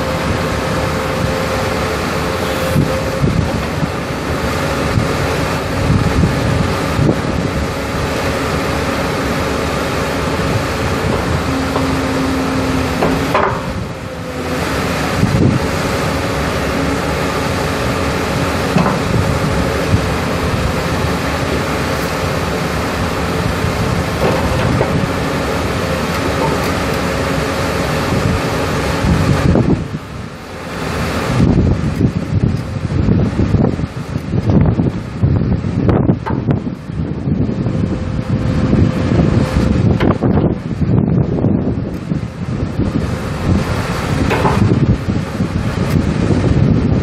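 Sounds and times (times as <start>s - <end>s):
excavator diesel engine running: 0.0s - 47.0s
wind buffeting microphone: 0.0s - 47.0s.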